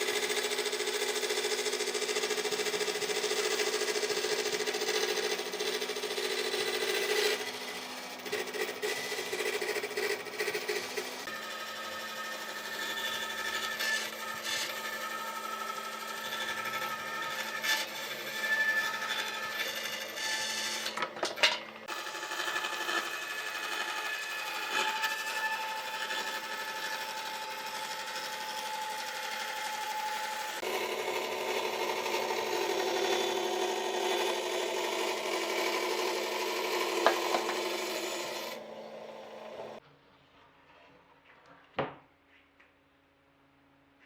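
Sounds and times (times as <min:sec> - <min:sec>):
electric power tool working wood: 0:00.0 - 0:39.8.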